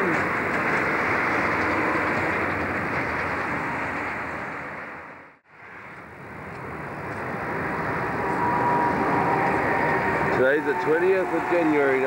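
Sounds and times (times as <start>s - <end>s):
distant traffic: 0.0s - 12.0s
wind: 0.0s - 12.0s.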